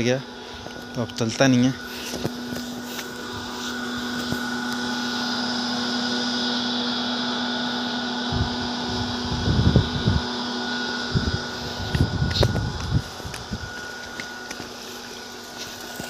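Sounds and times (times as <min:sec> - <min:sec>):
water pump motor humming: 0:00.0 - 0:16.0.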